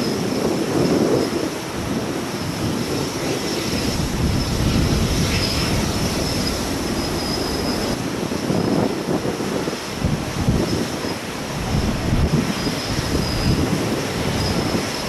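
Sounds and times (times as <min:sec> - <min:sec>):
jet engines rumbling and whining: 0:00.0 - 0:15.0
wind buffeting microphone: 0:00.0 - 0:15.0.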